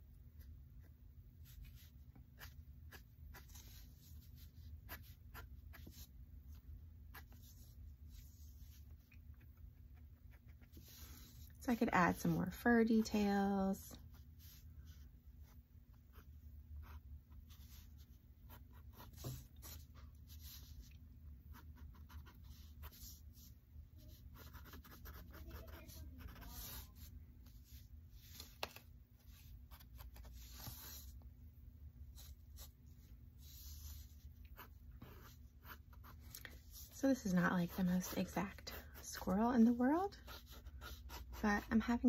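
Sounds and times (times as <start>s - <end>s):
marker scratching on paper: 1.4s - 6.1s, 7.1s - 13.3s, 14.4s - 20.9s, 21.5s - 31.2s, 32.2s - 32.8s, 33.4s - 42.0s.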